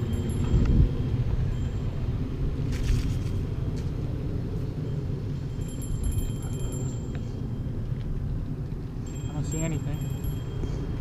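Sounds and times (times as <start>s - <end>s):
wind buffeting: 0.0s - 11.0s.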